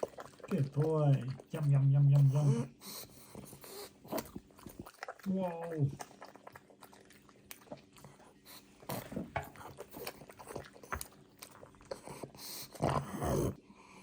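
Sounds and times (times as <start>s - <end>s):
dog chewing cucumber: 0.0s - 13.5s.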